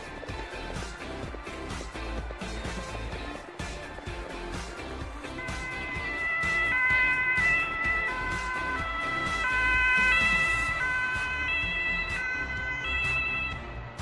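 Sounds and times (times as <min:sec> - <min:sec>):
two-tone emergency siren: 0:00.0 - 0:14.0.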